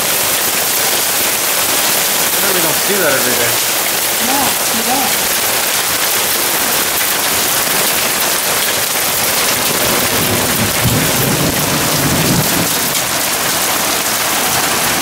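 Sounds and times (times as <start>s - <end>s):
hail and heavy rain on deck: 0.0s - 15.0s
hail on metal lid: 0.2s - 15.0s.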